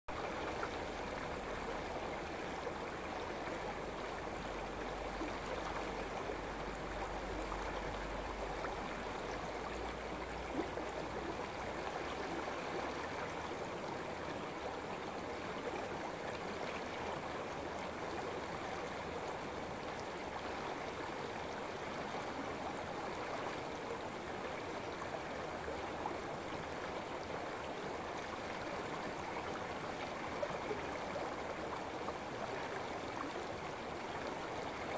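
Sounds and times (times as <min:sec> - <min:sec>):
stream flowing over rocks: 0:00.1 - 0:34.9.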